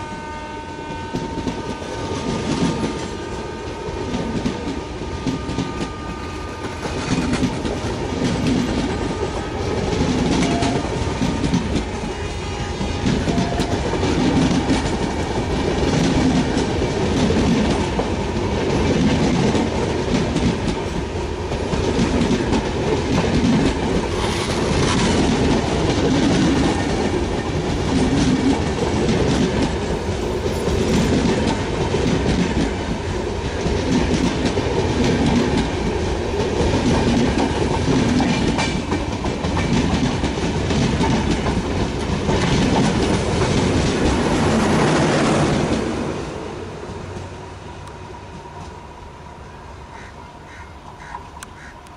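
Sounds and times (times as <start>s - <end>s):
train coaches rumbling past: 0.0s - 51.9s
wheels clacking over rail joints: 1.1s - 48.8s.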